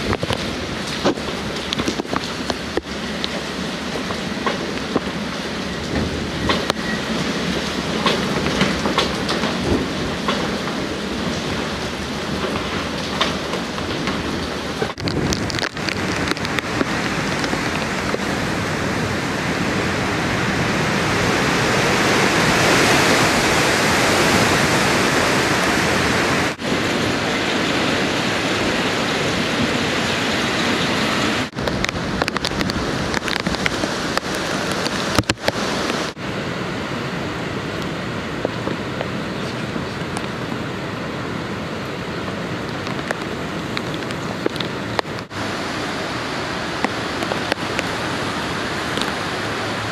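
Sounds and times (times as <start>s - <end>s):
heavy rain: 0.0s - 49.9s
strong wind: 0.0s - 49.9s.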